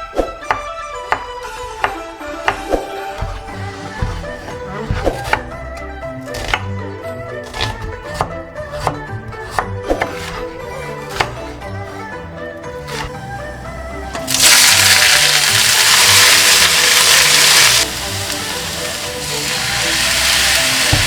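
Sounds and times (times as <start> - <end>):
background music: 0.0 - 21.0
knife chopping on cutting board: 0.5 - 6.7, 7.4 - 13.6, 14.2 - 21.0.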